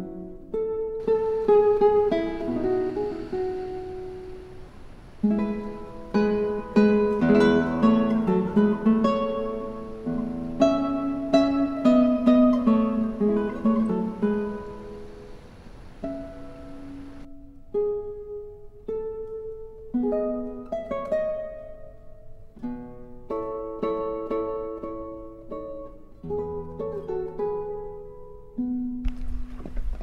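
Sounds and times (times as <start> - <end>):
acoustic guitar plucking melody: 0.0 - 30.0.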